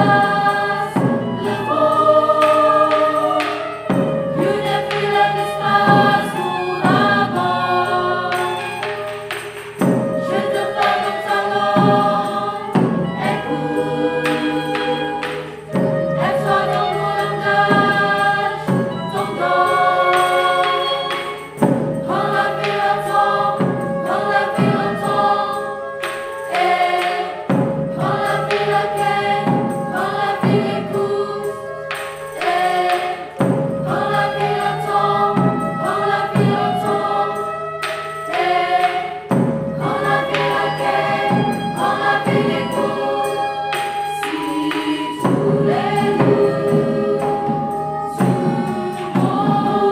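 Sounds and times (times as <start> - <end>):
choir singing sustained chords: 0.0 - 49.9.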